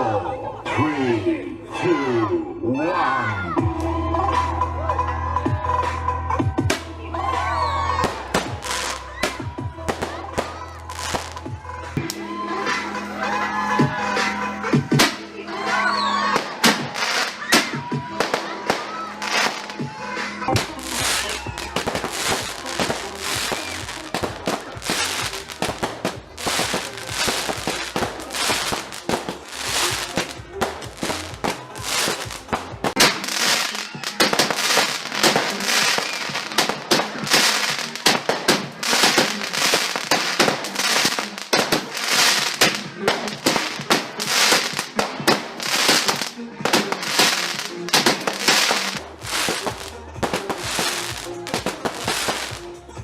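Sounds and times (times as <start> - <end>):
fireworks bangs and crackles: 5.8 - 12.8, 13.5 - 53.0.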